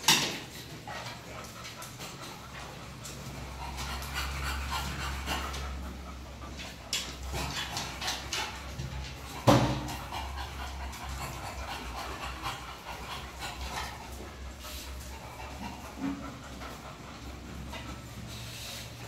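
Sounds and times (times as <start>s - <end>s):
dogs panting: 0.0s - 19.0s.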